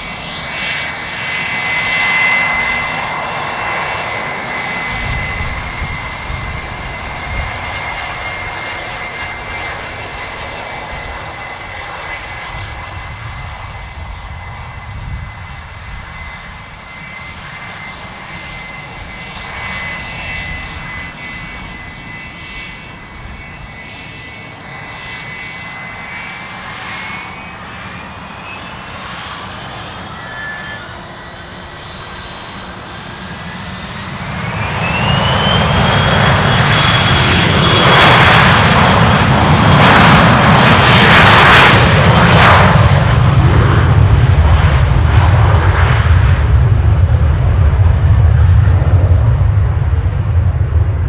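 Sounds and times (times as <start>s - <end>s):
aircraft turbine engines whining: 0.0s - 51.0s.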